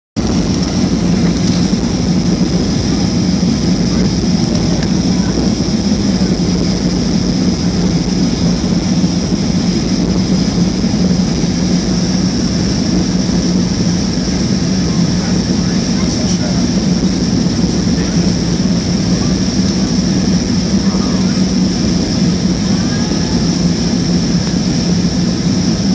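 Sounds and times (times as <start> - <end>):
jet airliner hum and whine: 0.2 - 25.9.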